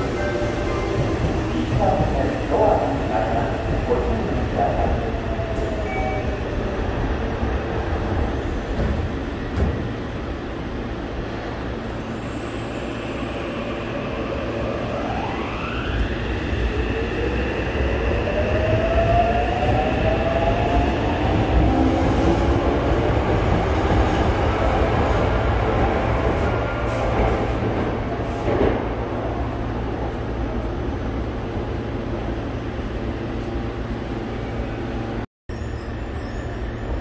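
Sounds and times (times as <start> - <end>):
train rolling rumble: 0.0 - 35.2.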